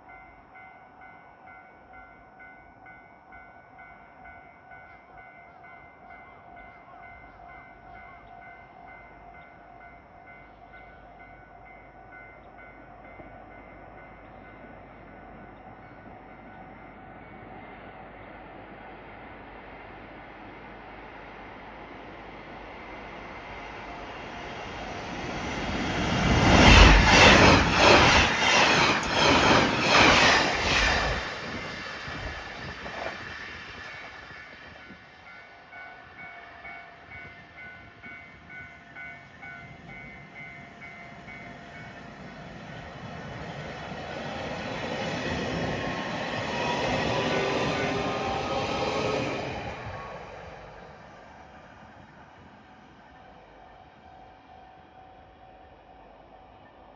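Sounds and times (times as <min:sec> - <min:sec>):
train rumble: 0:00.0 - 0:56.9.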